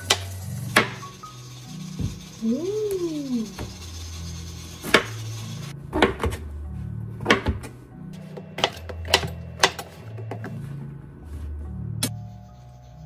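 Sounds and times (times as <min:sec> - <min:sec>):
background music with low notes: 0:00.0 - 0:13.0.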